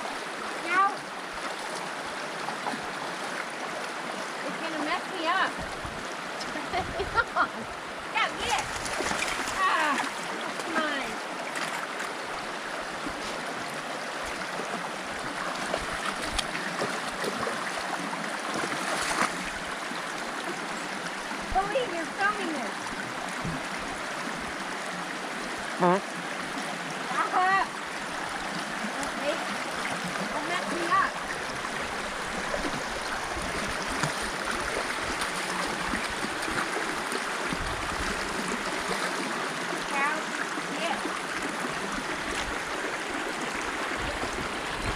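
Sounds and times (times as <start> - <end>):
creek rushing over rocks: 0.0 - 44.9.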